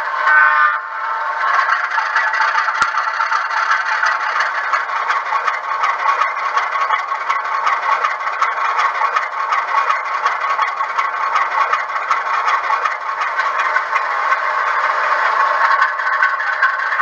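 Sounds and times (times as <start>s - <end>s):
model locomotive engine idling: 0.0s - 17.0s.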